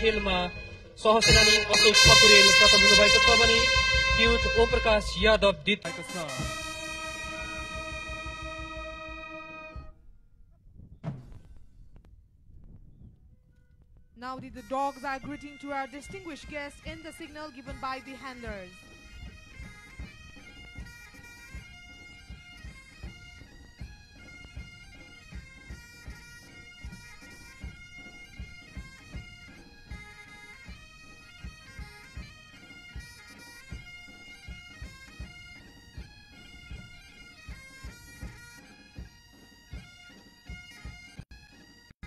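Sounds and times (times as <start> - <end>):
bagpipe melody: 0.0 - 9.9, 14.6 - 42.0
drum beat: 0.0 - 9.9, 14.2 - 41.3.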